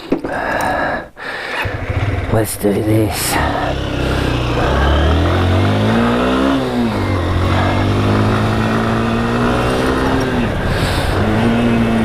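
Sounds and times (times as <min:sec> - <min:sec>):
motorcycle engine accelerating: 0:01.6 - 0:12.0.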